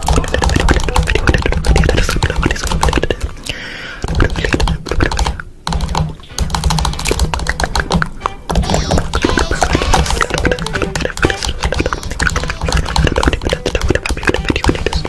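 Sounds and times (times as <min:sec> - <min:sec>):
computer keyboard typing: 0:00.0 - 0:03.3, 0:04.0 - 0:15.0.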